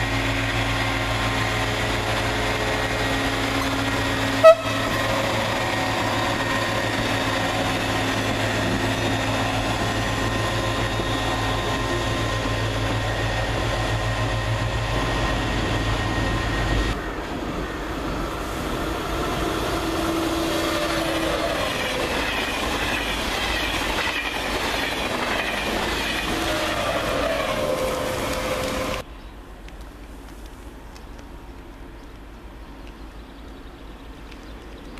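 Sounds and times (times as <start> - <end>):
diesel engine humming: 0.0 - 29.1
train wheels on rails: 0.0 - 29.1.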